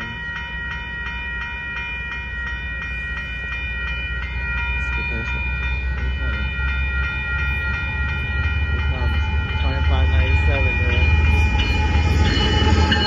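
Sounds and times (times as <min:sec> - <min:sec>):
freight train rumble: 0:00.0 - 0:13.0
railroad crossing bell ringing: 0:00.0 - 0:13.0.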